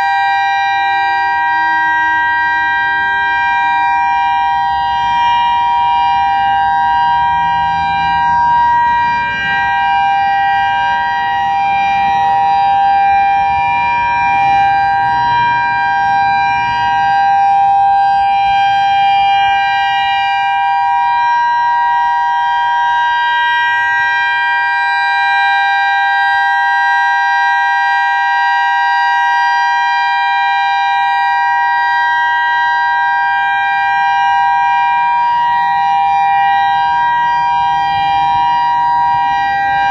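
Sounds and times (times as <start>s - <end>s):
warning siren steady tones: 0.0s - 39.9s.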